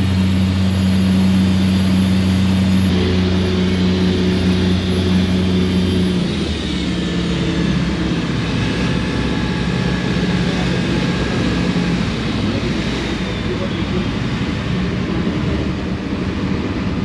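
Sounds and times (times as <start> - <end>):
diesel engines droning: 0.0 - 17.0.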